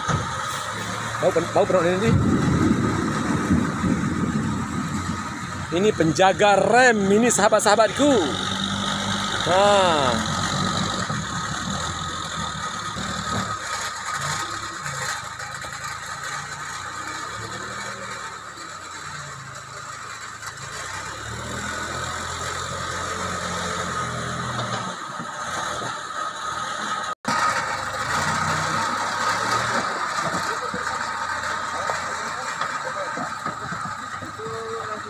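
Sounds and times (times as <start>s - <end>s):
diesel engine rising and falling: 0.0s - 35.0s.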